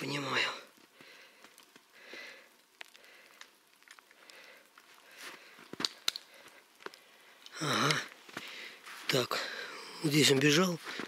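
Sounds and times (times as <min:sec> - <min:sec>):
quiet footsteps: 0:00.7 - 0:09.4, 0:10.1 - 0:11.0.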